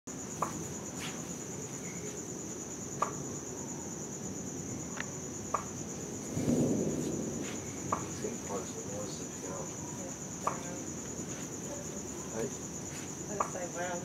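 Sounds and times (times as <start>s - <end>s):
crickets chirring: 0.1s - 14.0s.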